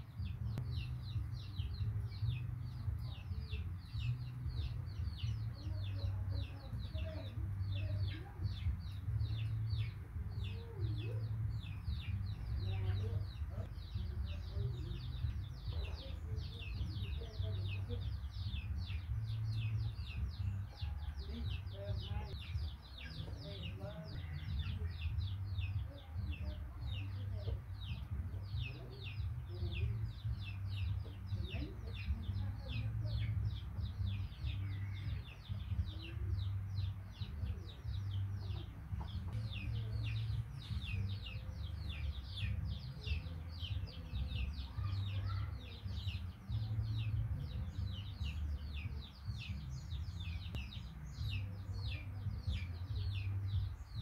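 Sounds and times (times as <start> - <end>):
birds chirping rapidly: 0.0 - 54.0
steady low rumble: 0.0 - 54.0.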